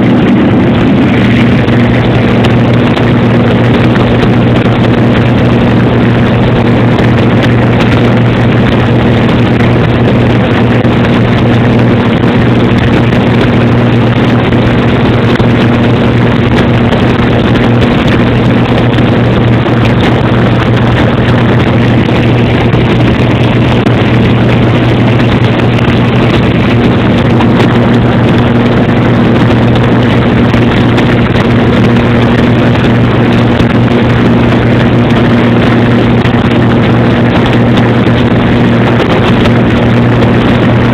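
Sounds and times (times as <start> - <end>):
airplane engine drone: 0.0 - 40.9
rushing air noise: 0.0 - 40.9.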